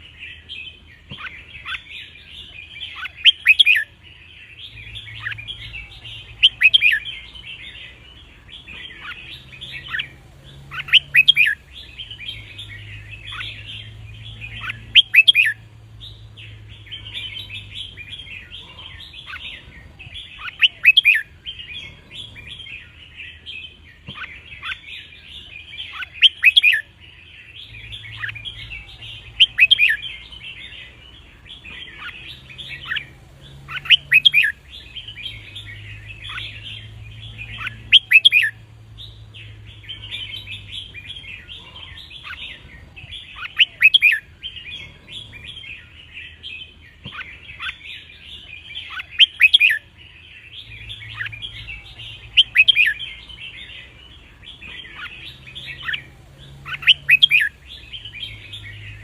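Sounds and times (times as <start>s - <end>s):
birds twittering: 0.0s - 59.0s.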